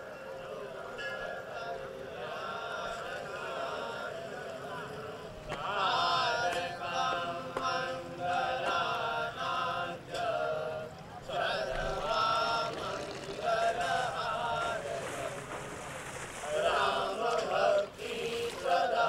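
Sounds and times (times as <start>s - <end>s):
voices chanting: 0.0s - 19.0s.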